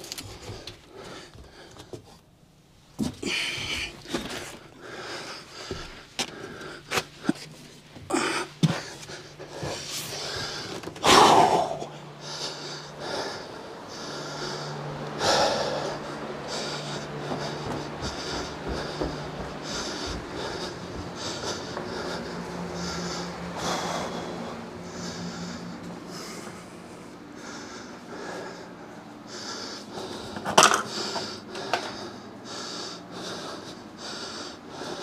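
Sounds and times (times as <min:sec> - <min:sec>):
man panting: 0:00.1 - 0:02.1, 0:03.0 - 0:35.0.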